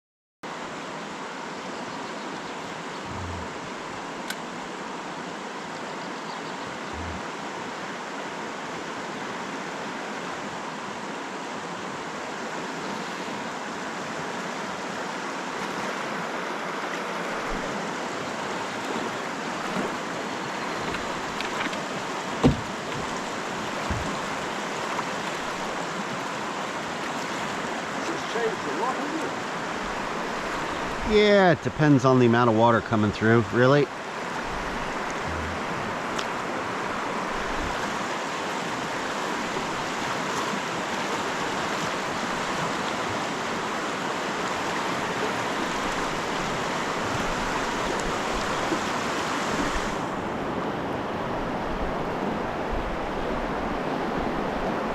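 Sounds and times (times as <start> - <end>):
rushing water: 0.5 - 54.9.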